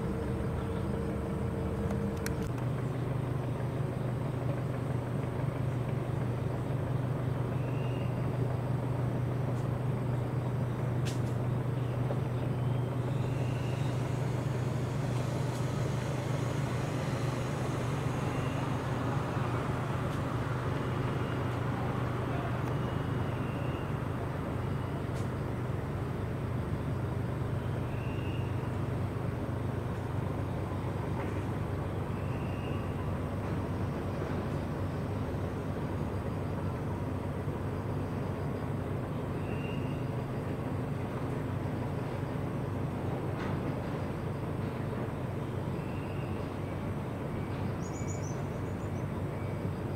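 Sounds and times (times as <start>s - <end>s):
town ambience hum: 0.0s - 49.9s.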